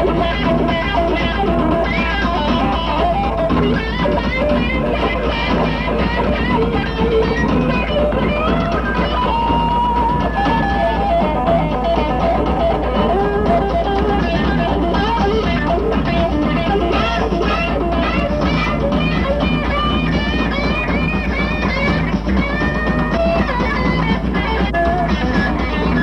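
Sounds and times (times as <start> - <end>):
electric guitar melody: 0.0 - 26.0
rock band playing live: 0.0 - 26.0.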